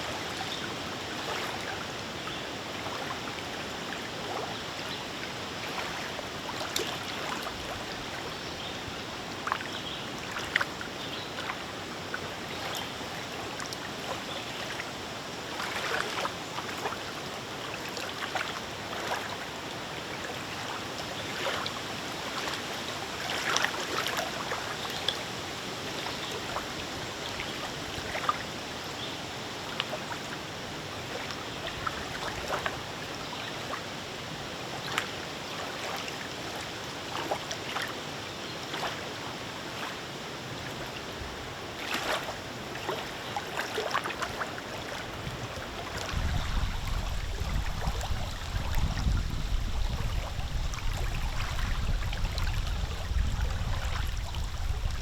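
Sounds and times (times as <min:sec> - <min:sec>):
lake waves lapping and splashing: 0:00.0 - 0:55.0.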